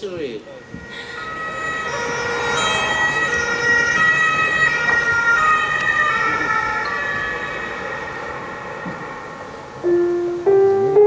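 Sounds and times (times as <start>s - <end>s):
ambulance siren over loudspeakers: 0.0s - 10.8s.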